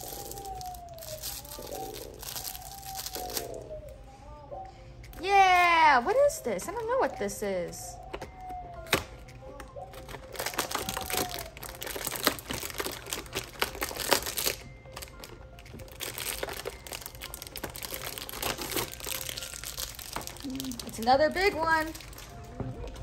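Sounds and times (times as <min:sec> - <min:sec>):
plastic packaging crinkling: 0:00.0 - 0:03.8, 0:08.0 - 0:23.0
faint background music: 0:00.0 - 0:23.0.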